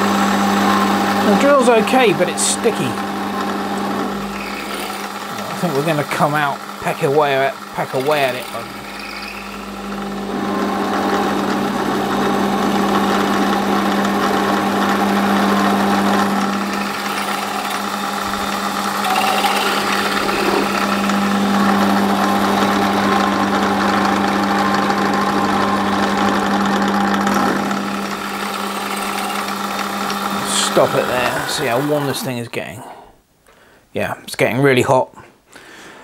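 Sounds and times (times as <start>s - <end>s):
drill cutting metal bar: 0.0s - 32.4s
metal lathe humming: 0.0s - 32.4s.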